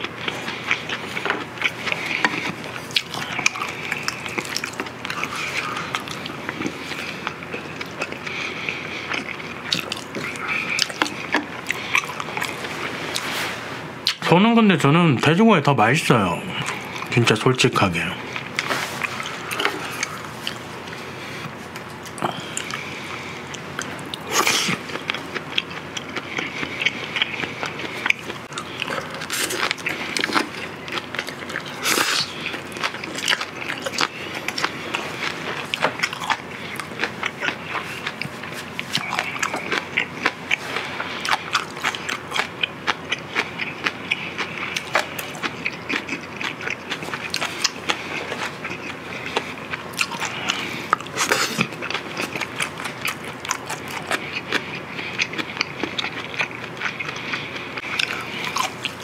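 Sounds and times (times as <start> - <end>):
wet chewing clicks: 0.0 - 13.2, 21.7 - 59.0.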